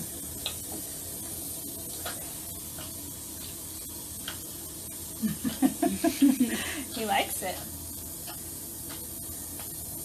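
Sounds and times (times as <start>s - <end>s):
shower water running into tub: 0.0s - 10.0s.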